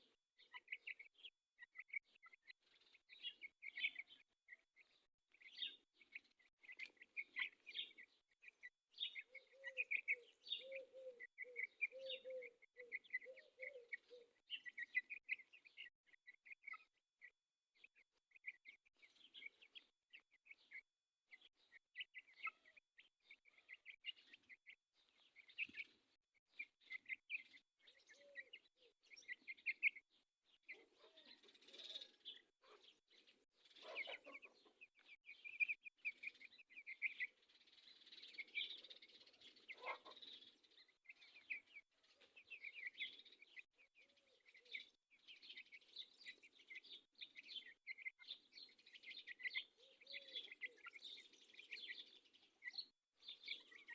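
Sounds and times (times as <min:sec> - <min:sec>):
low soft bird calls: 0:00.0 - 0:53.9
small birds chirping: 0:00.0 - 0:53.9.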